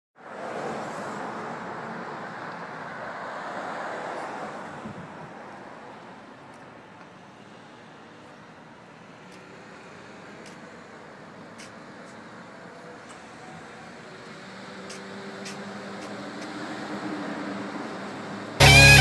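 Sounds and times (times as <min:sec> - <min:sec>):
street traffic noise: 0:00.2 - 0:19.0.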